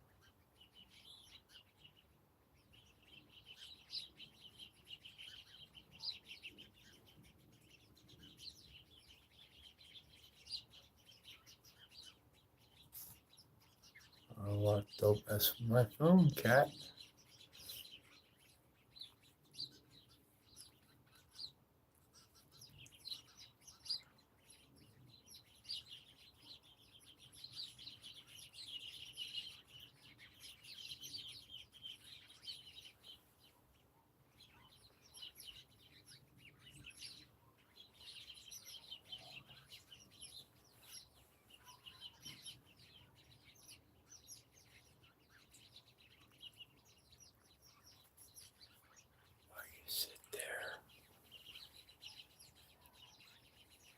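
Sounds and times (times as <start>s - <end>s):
small songbirds chirping: 0.0s - 53.9s.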